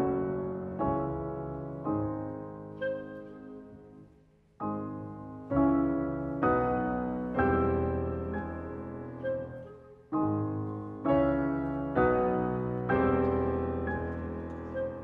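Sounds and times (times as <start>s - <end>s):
grand piano chords: 0.0s - 15.0s.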